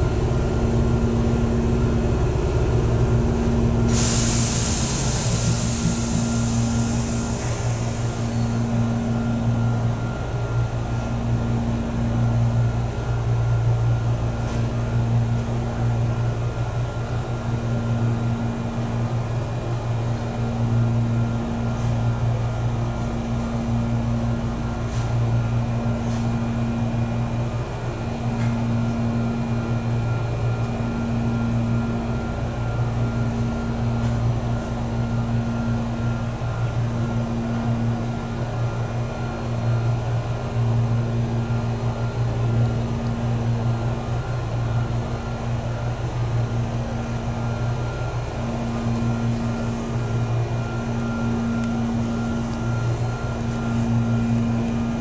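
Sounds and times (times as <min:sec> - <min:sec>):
electric train running noise: 0:00.0 - 0:55.0.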